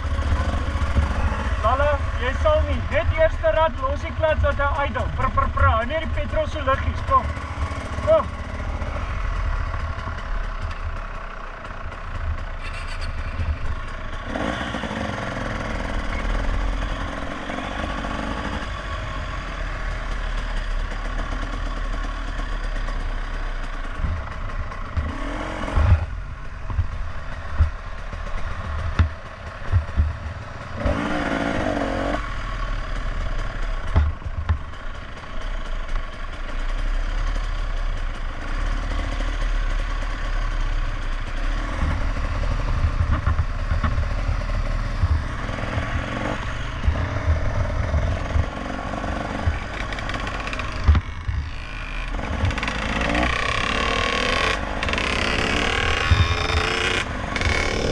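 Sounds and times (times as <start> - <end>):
small motorcycle engine revving: 0.0 - 57.9.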